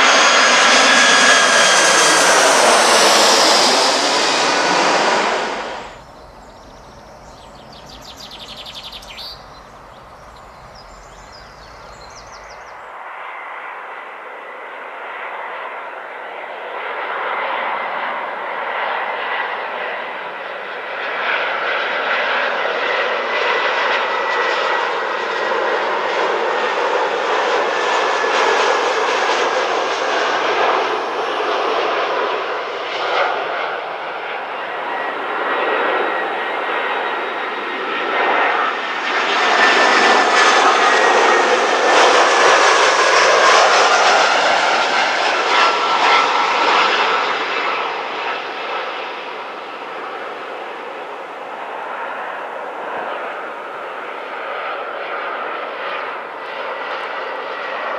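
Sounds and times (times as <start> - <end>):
jet airliner engine whine: 0.0 - 57.9.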